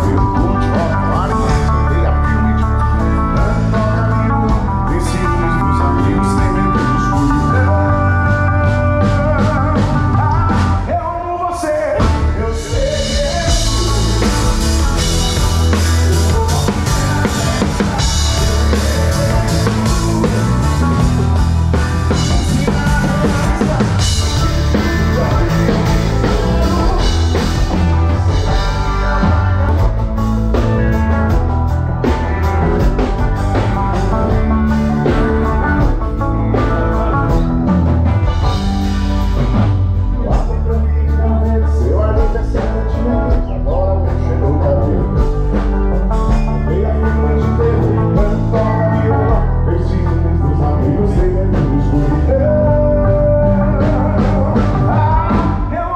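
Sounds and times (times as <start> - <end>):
band playing music: 0.0 - 55.9
drum kit: 0.0 - 55.9
heavy bass line: 0.0 - 55.9.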